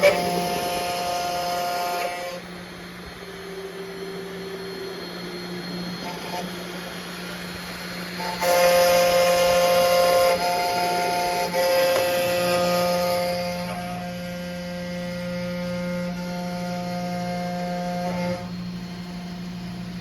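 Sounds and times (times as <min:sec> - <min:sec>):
steady low hum: 0:00.0 - 0:20.0
stepper motors whining: 0:00.0 - 0:20.0.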